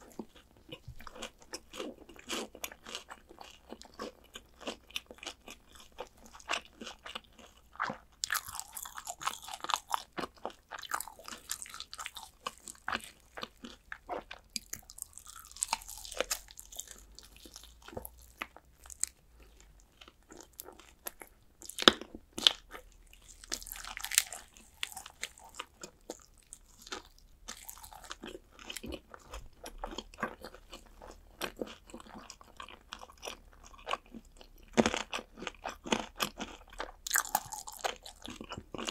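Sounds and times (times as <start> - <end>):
crunchy fried chicken chewing: 0.0 - 38.9.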